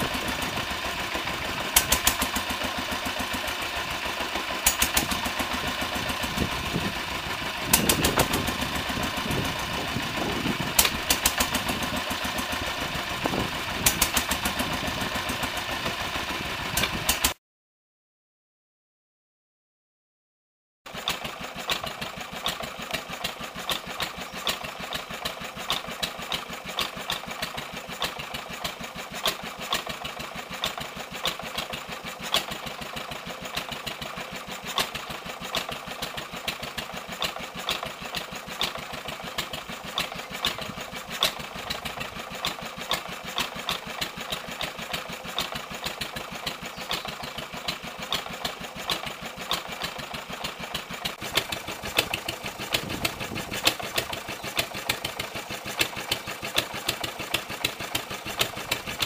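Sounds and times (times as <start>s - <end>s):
stationary engine running: 0.0s - 17.4s, 20.9s - 59.0s.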